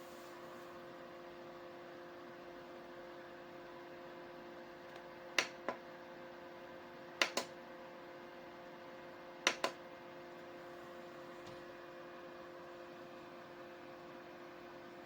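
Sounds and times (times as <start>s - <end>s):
dehumidifier humming: 0.0s - 15.0s.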